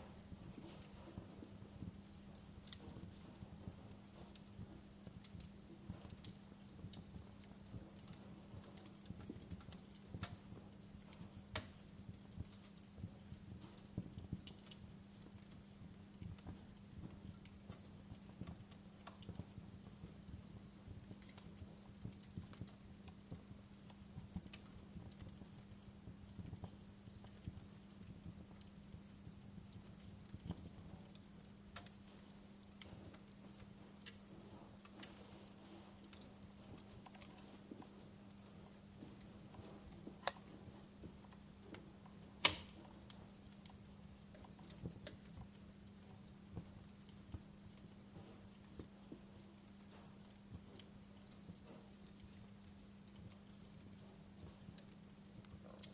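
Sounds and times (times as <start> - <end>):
steady low hum: 0.0 - 55.9
wood fire crackling: 0.0 - 55.9.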